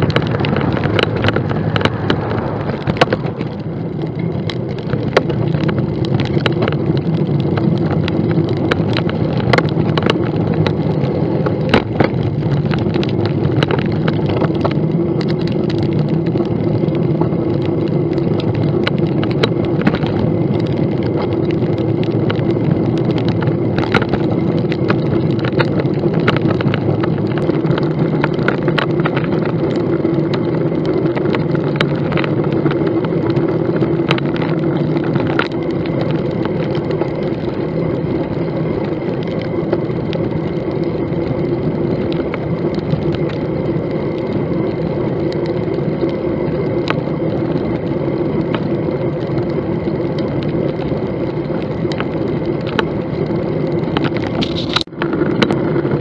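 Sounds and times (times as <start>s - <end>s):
road noise: 0.0s - 56.0s
wind on microphone: 0.0s - 56.0s.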